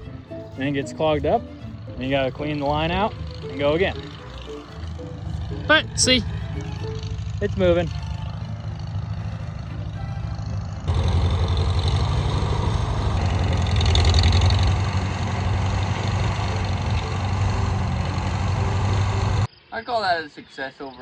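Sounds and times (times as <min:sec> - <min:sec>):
tractor engine running: 0:00.0 - 0:19.5.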